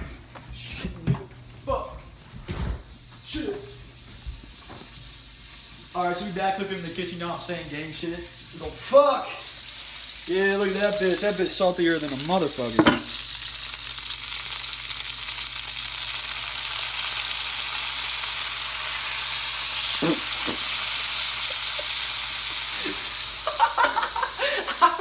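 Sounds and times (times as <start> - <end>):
burger patty sizzling: 3.0 - 25.0.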